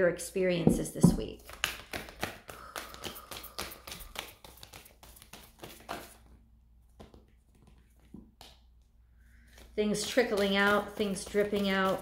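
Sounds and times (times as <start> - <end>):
cards being shuffled: 1.4 - 12.0.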